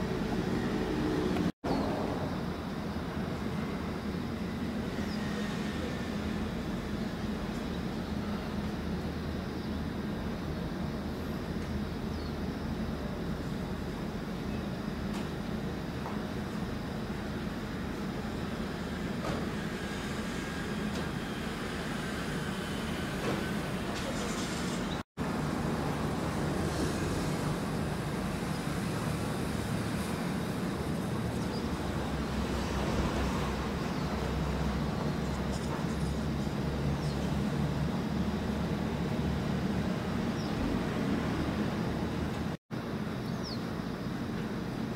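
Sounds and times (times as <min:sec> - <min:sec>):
outdoor rumble and hiss: 0:00.0 - 0:44.9
ship diesel engine drone: 0:00.0 - 0:44.9.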